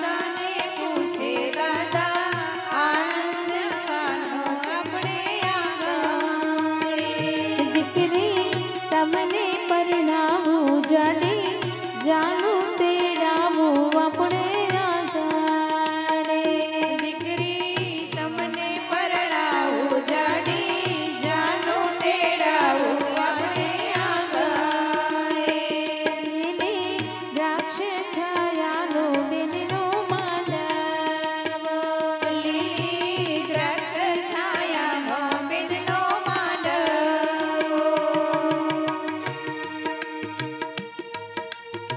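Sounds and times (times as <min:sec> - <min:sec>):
women singing into microphones: 0:00.0 - 0:41.1.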